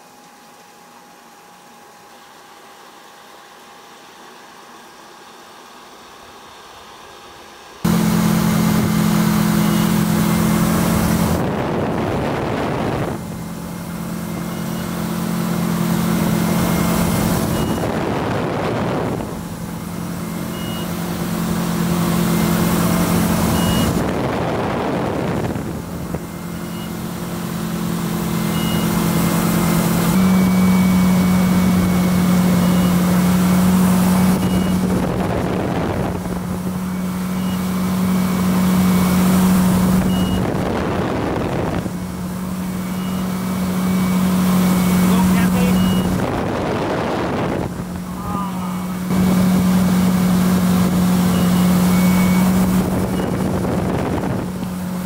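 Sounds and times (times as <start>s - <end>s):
boat engine running: 7.6s - 55.0s.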